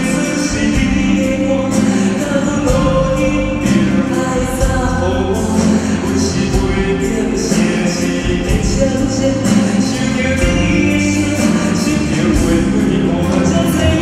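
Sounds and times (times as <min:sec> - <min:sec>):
acoustic guitars: 0:00.0 - 0:14.0
man singing: 0:00.0 - 0:14.0.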